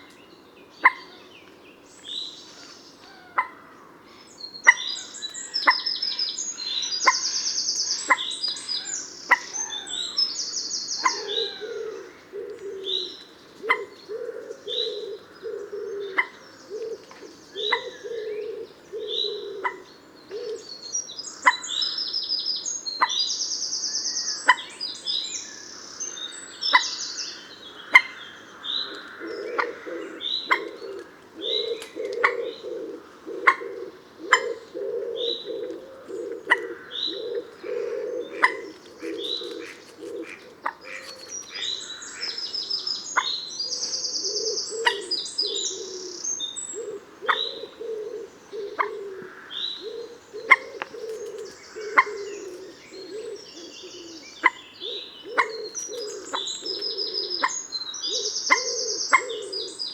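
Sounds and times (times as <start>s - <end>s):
low pulsing bird calls: 4.4s - 22.2s, 24.0s - 59.9s.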